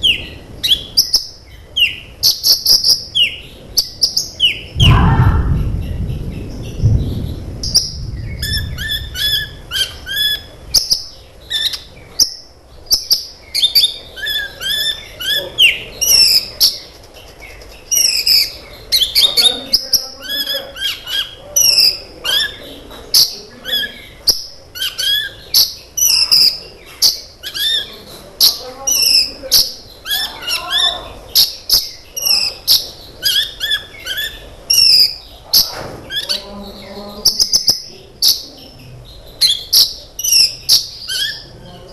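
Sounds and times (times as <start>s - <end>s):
bird twittering and chirping: 0.0s - 41.9s.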